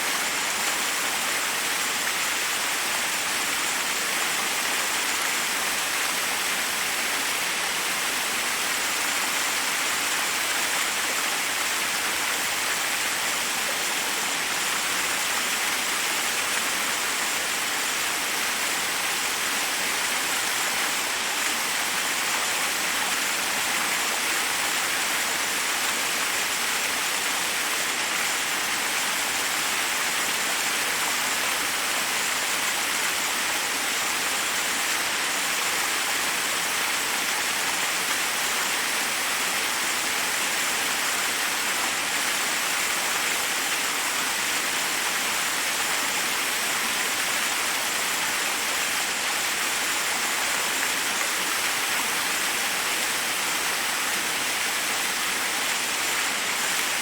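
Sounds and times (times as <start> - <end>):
waterfall cascading over rocks: 0.0 - 57.0.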